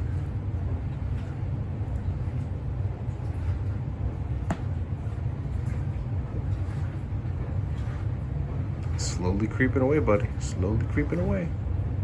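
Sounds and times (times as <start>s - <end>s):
furnace blower rumble: 0.0s - 12.0s.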